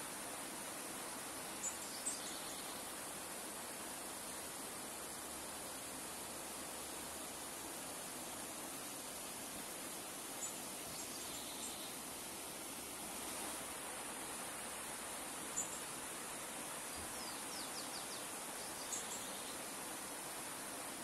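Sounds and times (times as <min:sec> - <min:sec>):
river running over stones: 0:00.0 - 0:21.0.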